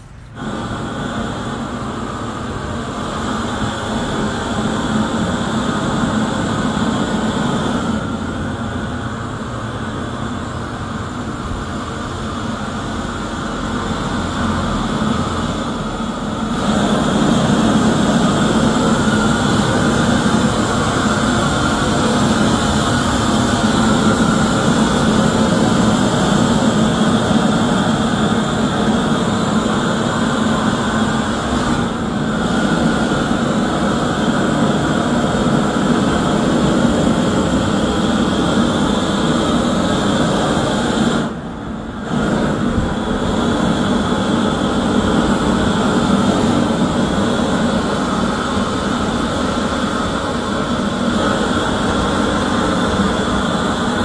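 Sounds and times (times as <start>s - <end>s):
propane torch roaring: 0.0s - 54.0s.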